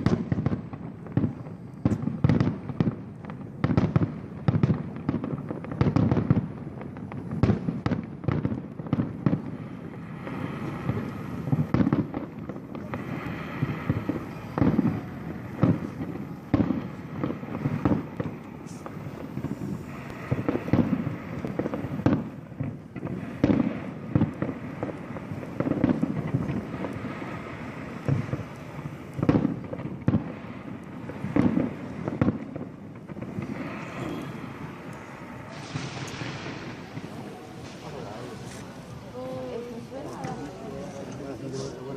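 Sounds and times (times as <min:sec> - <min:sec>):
firework crackling: 0:00.0 - 0:41.9
firework shells bursting: 0:00.0 - 0:41.9.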